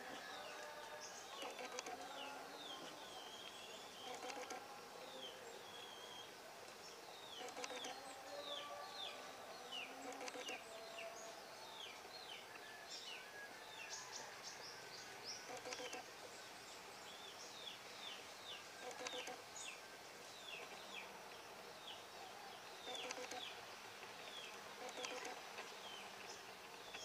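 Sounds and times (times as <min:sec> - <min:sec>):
birds chirping: 0:00.0 - 0:27.0
outdoor background noise: 0:00.0 - 0:27.0.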